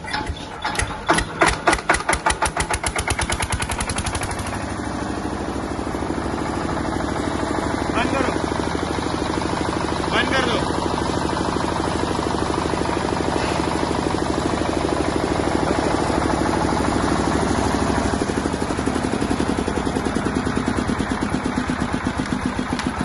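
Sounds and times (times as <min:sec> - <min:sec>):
diesel generator engine knocking: 0:00.0 - 0:23.0.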